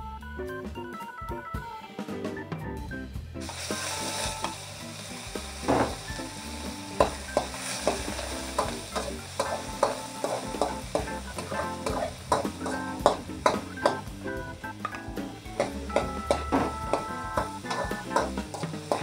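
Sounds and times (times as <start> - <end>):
food sizzling in a frying pan: 3.4 - 19.0.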